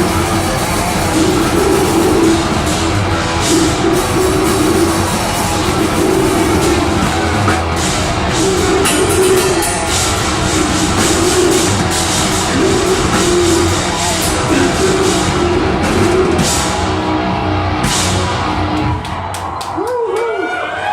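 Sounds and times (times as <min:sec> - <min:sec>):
harsh vocals: 0:00.0 - 0:17.2
distorted guitars: 0:00.0 - 0:19.7
drum kit: 0:00.0 - 0:19.8.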